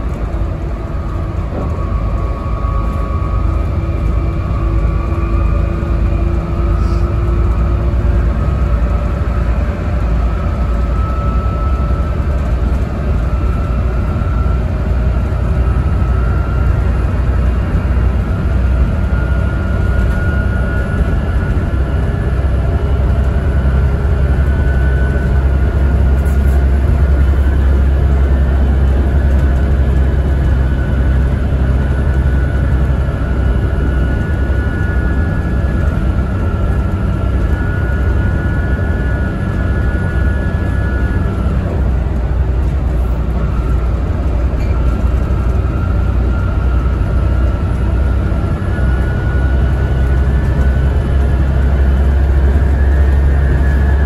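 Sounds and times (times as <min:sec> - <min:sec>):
bus diesel engine droning: 0:00.0 - 0:54.0
road rumble: 0:00.0 - 0:54.0
thin whine rising in pitch: 0:00.7 - 0:54.0.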